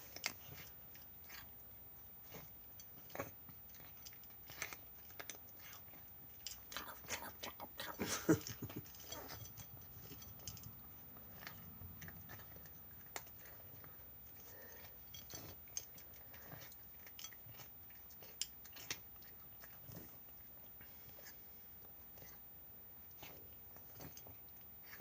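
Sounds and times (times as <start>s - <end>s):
cat chewing crunches: 0.0s - 25.0s.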